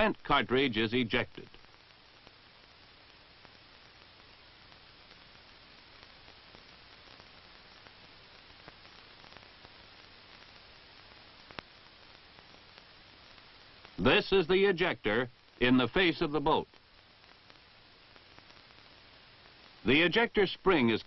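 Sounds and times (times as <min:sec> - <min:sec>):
film soundtrack hiss and hum: 0:00.0 - 0:21.0
soft crackles: 0:00.0 - 0:21.0.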